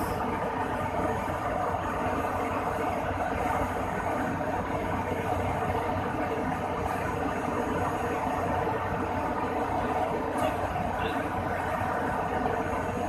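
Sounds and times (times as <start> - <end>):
aircraft systems mechanical drone: 0.0 - 13.0.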